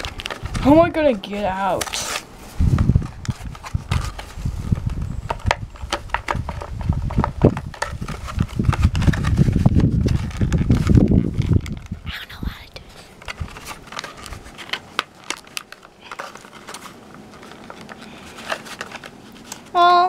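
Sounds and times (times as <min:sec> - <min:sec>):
plastic packaging crinkling: 0:00.0 - 0:19.8.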